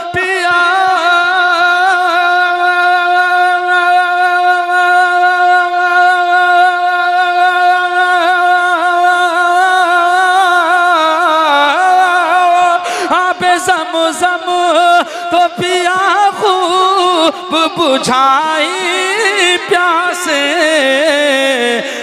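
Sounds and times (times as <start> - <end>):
man singing long held note: 0.0 - 22.0.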